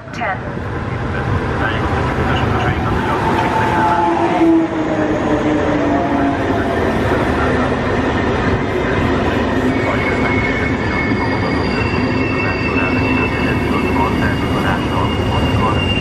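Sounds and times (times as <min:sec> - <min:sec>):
locomotive passing: 0:00.0 - 0:16.0
train wheels on rails: 0:00.0 - 0:16.0
brake squeal: 0:01.6 - 0:07.7, 0:08.5 - 0:16.0.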